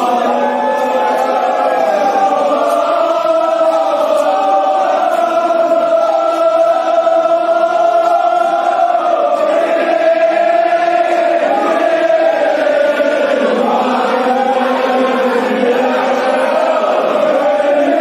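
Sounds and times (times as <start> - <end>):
person chanting a lament: 0.0 - 18.0.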